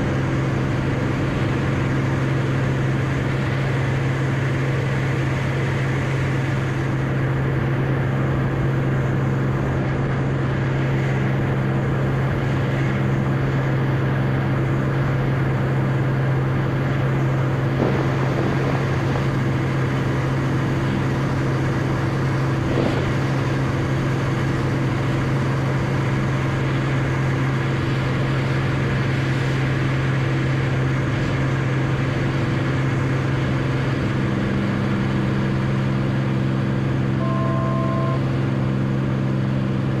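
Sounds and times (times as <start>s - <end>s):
propeller aircraft engine droning: 0.0s - 40.0s.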